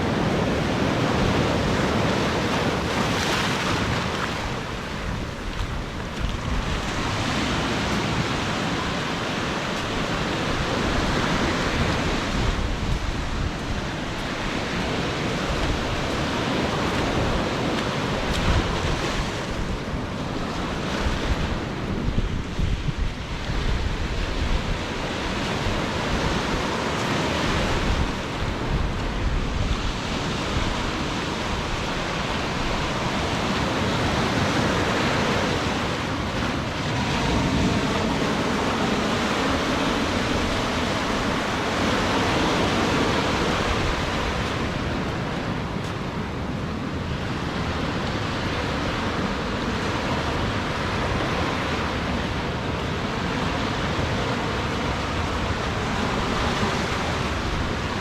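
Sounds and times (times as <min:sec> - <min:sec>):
ocean surf washing on beach: 0:00.0 - 0:58.0
wind on microphone: 0:00.0 - 0:58.0.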